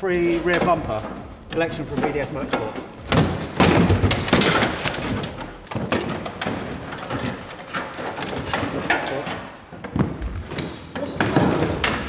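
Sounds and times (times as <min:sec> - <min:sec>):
car body parts knocking and scraping: 0:00.0 - 0:12.0
rattle of small knocks: 0:00.0 - 0:12.0.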